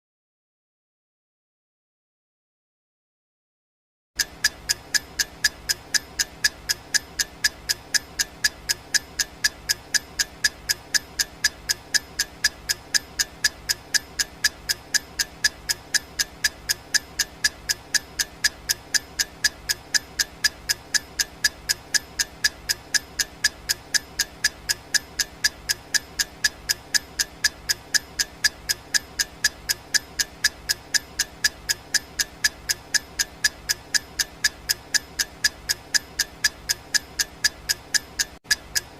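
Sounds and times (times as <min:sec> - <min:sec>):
clock ticking: 0:04.2 - 0:38.9.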